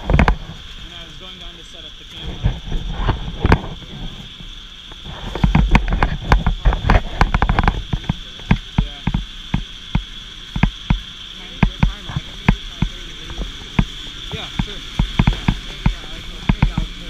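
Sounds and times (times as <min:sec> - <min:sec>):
sharp clicks and knocks: 0:00.0 - 0:00.6, 0:02.4 - 0:03.8, 0:04.9 - 0:17.0
steady high hum: 0:00.0 - 0:17.0.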